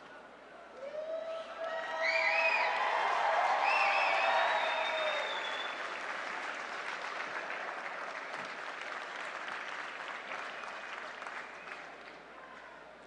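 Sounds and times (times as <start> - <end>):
audience applauding: 1.6 - 12.3.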